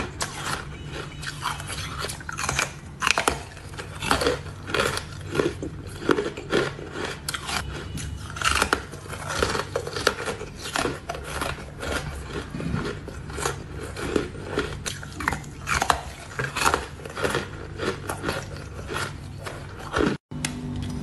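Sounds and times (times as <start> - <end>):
ice cubes crunching between teeth: 0.0 - 20.2.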